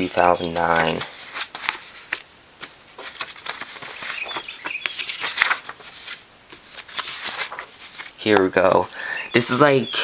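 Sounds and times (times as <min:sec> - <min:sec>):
paper rustling: 0:00.0 - 0:08.9.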